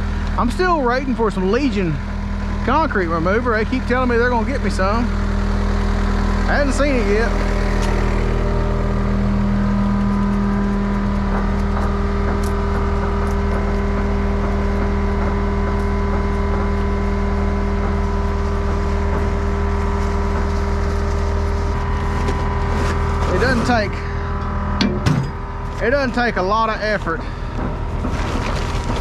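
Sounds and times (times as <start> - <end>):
heavy equipment engine idling: 0.0 - 29.0.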